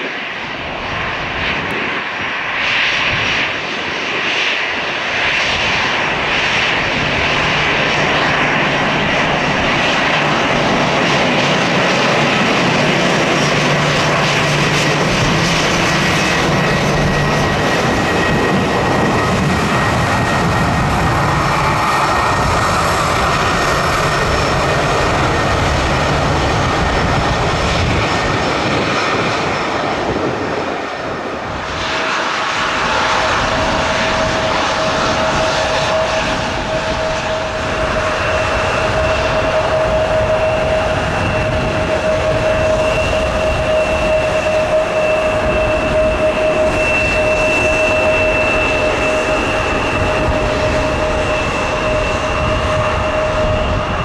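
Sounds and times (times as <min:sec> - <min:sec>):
jet engines rushing: 0:00.0 - 0:54.0
steady engine whine: 0:00.0 - 0:54.0.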